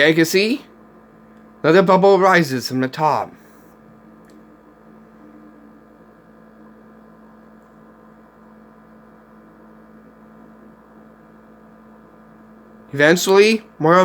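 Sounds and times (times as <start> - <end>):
faint electrical hum with hiss: 0.0 - 14.0.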